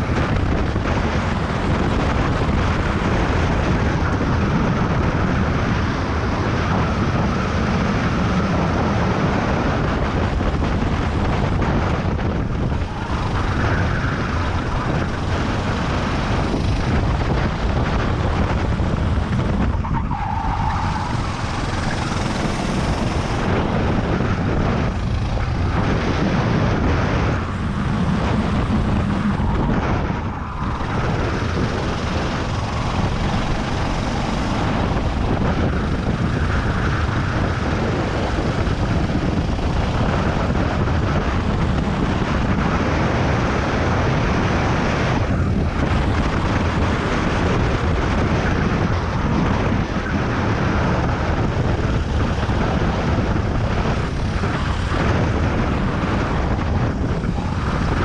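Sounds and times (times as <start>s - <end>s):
racing kart engine: 0.0s - 58.0s
wind over microphone: 0.0s - 58.0s.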